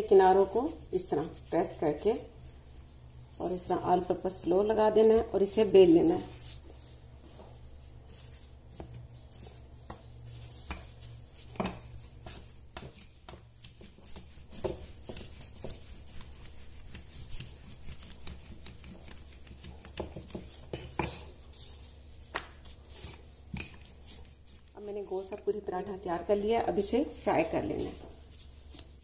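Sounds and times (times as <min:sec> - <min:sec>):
low steady hum: 0:00.0 - 0:29.0
rolling pin rubbing on dough: 0:00.0 - 0:29.0.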